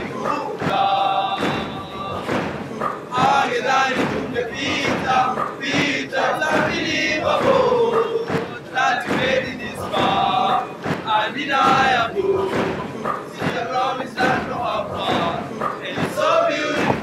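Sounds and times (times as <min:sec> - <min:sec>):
boys choir singing: 0:00.0 - 0:17.0.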